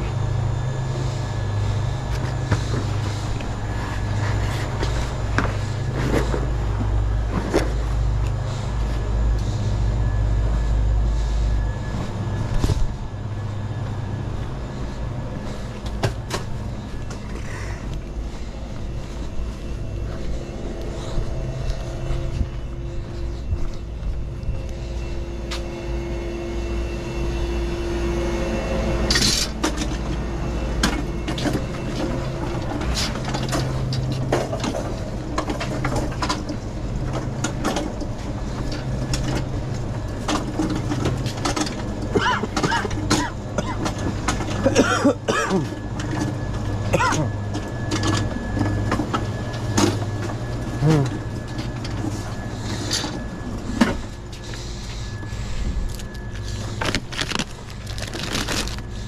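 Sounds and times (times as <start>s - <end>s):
hand truck wheels rumbling: 0.0s - 59.0s.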